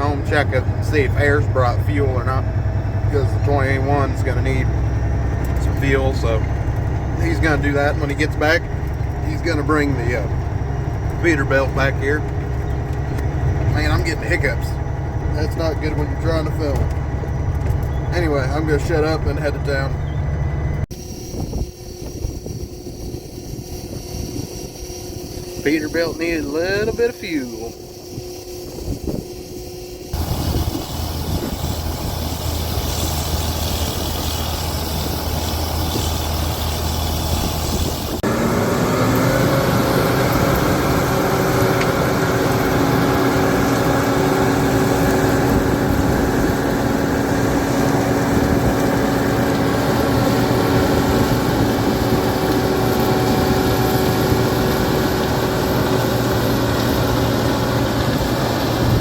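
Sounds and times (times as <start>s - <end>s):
engine whining tones: 0.0s - 59.0s
heavy diesel engine running: 0.0s - 59.0s.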